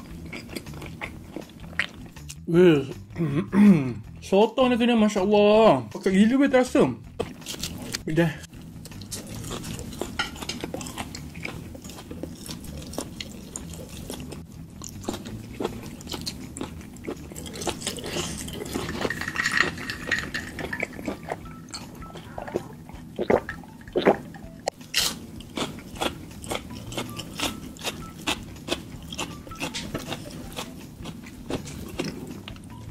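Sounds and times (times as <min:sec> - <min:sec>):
chewing and biting food: 0:00.0 - 0:02.4, 0:07.1 - 0:08.0, 0:08.6 - 0:32.9.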